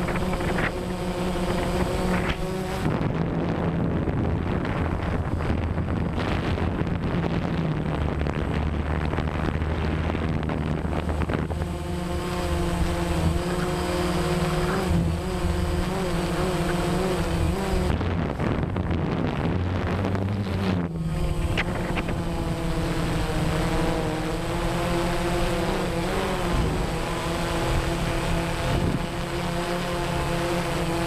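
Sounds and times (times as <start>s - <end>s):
drone propellers buzzing: 0.0s - 31.0s
high wavering motor whine: 0.0s - 31.0s
wind noise on microphone: 0.0s - 31.0s.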